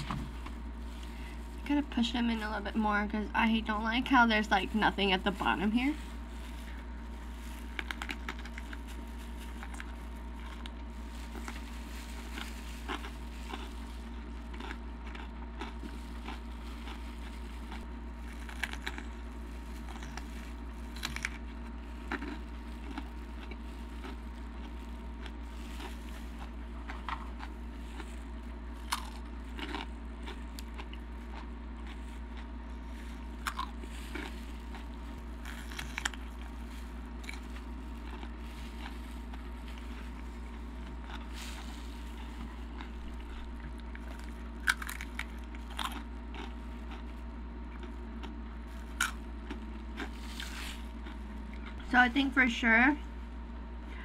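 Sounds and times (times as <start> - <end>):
crisp chewing crunches: 0.0 - 2.5, 3.6 - 51.9
low hum: 0.0 - 54.0.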